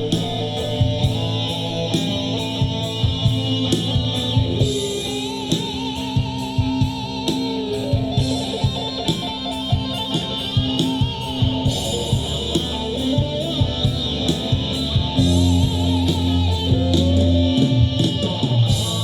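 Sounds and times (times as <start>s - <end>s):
electric guitar: 0.0s - 19.0s
steady drum beat: 0.0s - 19.0s.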